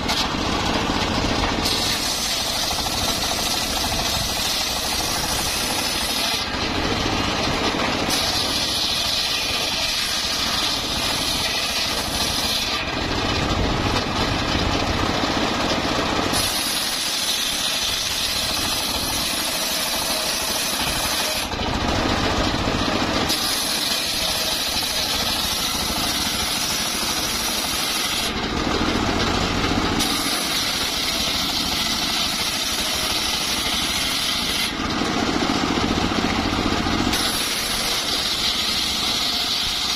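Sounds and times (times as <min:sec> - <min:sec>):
circular sawmill sawing log: 0:00.0 - 0:39.9.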